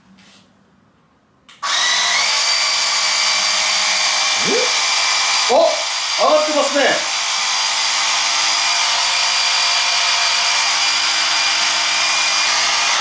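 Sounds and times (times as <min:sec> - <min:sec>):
electric inflator running: 0:01.6 - 0:13.0.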